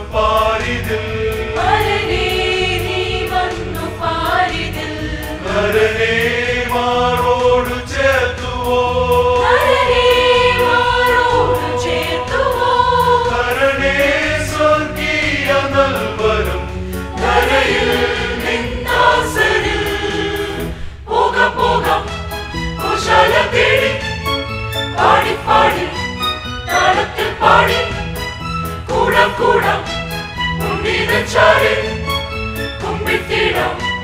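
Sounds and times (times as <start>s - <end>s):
choir singing a carol: 0.0s - 34.0s
instrumental accompaniment with bass: 0.0s - 34.0s.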